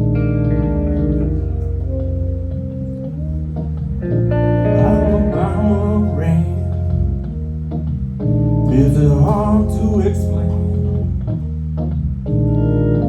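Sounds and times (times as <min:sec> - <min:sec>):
organ chords: 0:00.0 - 0:13.0
wavering melodic lead line: 0:00.0 - 0:13.0.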